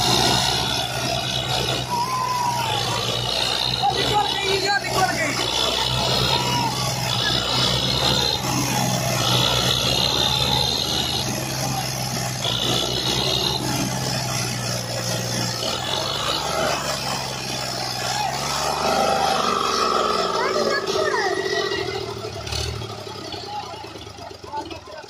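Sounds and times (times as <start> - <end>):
diesel tractor engines under load: 0.0 - 25.0.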